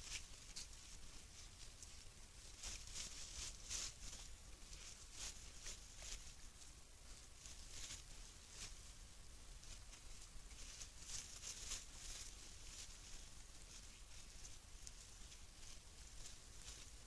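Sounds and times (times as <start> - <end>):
rustling in dry leaves: 0.0 - 17.0.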